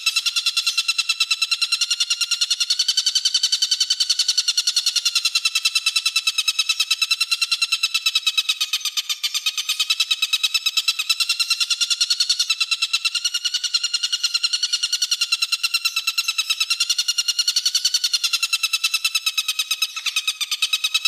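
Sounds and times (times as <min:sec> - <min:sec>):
songbird rasping rattle call: 0:00.0 - 0:21.0.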